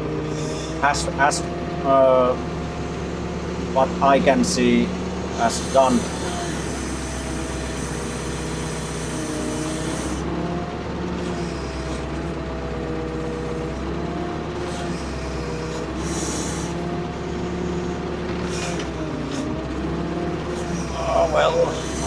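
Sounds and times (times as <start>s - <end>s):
excavator engine under load: 0.0s - 22.0s.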